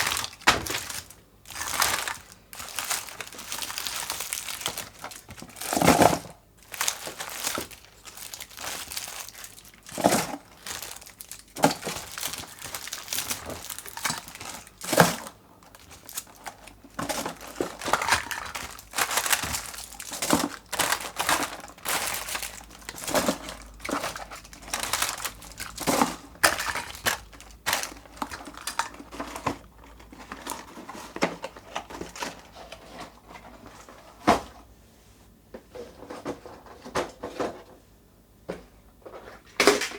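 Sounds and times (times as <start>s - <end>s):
candy wrappers crinkling: 0.0s - 32.7s.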